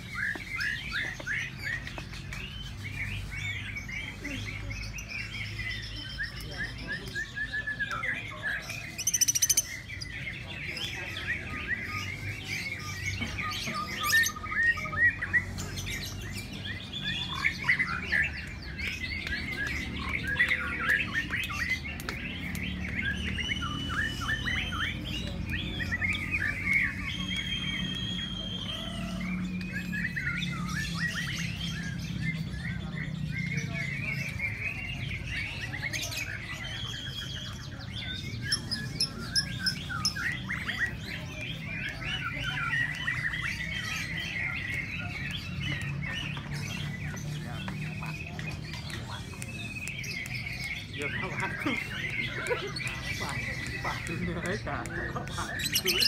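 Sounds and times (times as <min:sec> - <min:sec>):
bird chirping and trilling: 0:00.0 - 0:56.0.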